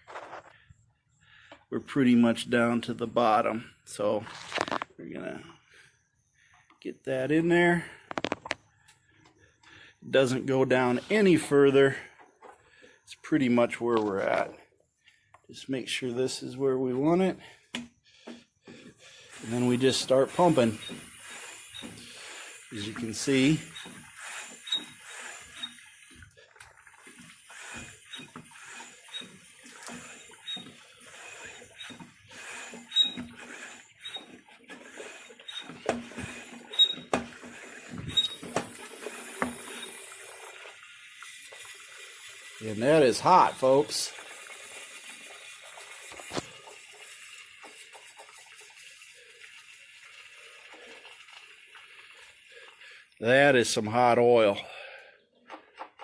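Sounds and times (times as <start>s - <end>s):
oil gurgling and slurping: 3.4s - 6.5s, 9.8s - 56.0s.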